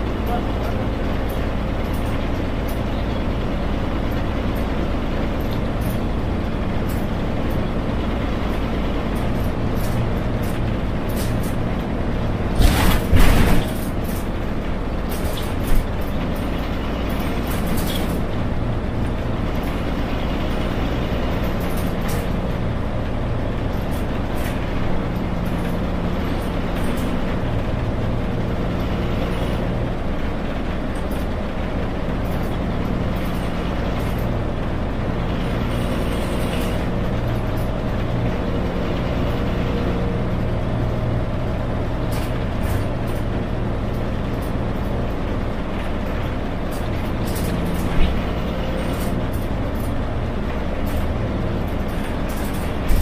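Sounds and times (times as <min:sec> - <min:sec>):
bus engine running: 0:00.0 - 0:53.0.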